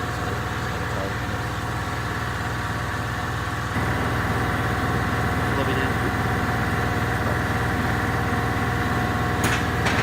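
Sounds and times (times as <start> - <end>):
engine running with low pulsing: 0.0 - 10.0.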